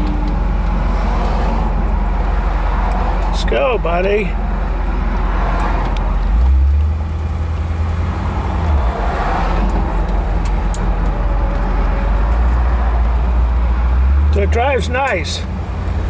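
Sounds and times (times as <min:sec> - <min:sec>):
car engine rumble: 0:00.0 - 0:16.0
road and wind noise: 0:00.0 - 0:16.0.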